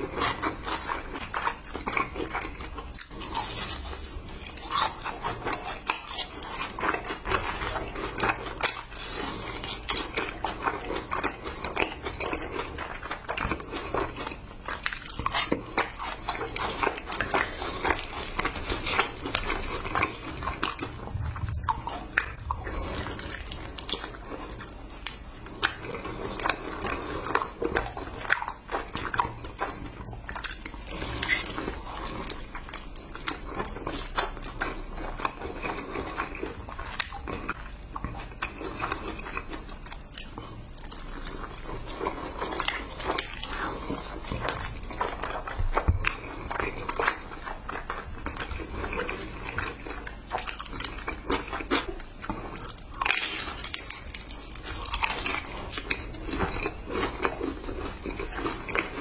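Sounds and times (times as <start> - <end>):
biting and chewing food: 0.0 - 59.0.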